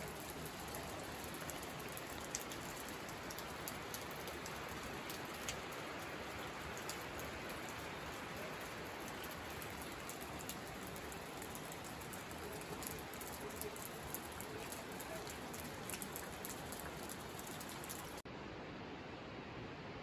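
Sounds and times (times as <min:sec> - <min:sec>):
rain on wet leaves and rocks: 0:00.0 - 0:18.3.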